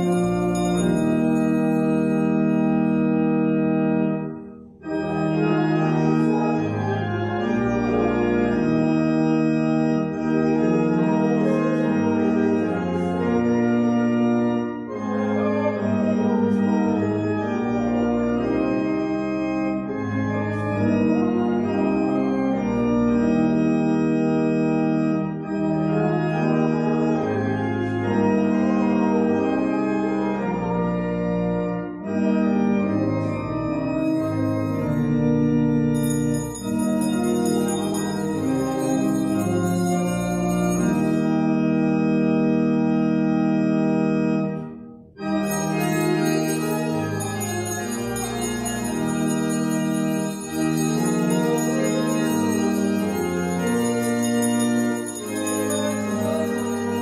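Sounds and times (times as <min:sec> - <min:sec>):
organ playing chords: 0:00.0 - 0:57.0.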